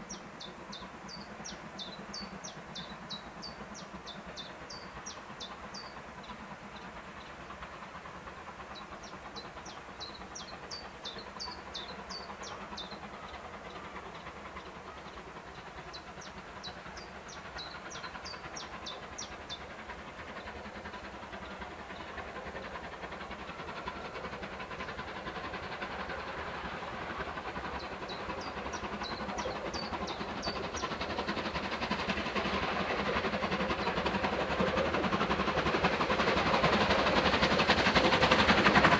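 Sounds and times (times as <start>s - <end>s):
steam locomotive exhaust rushing: 0.0s - 38.9s.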